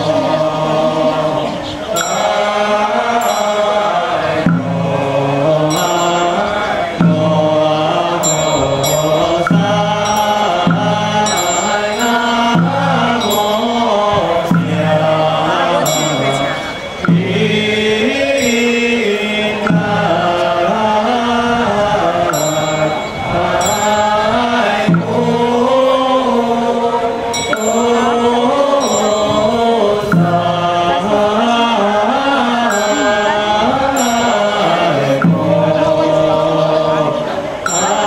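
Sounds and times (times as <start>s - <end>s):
devotional chanting: 0.0s - 38.0s.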